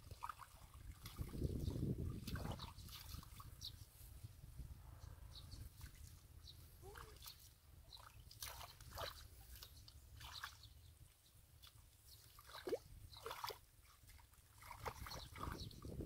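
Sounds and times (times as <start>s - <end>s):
small splashes and drips: 0.0s - 4.0s, 5.7s - 16.0s
squelching in muddy water: 0.0s - 4.2s, 5.6s - 16.0s.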